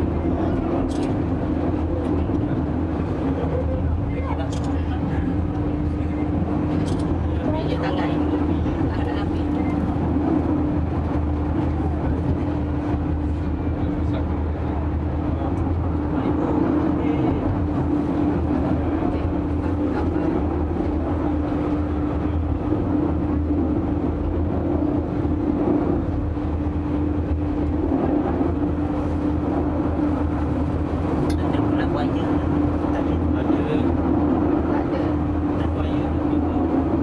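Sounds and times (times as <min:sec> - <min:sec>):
funicular car rumbling: 0:00.0 - 0:37.0
mid-pitched hum: 0:00.0 - 0:37.0.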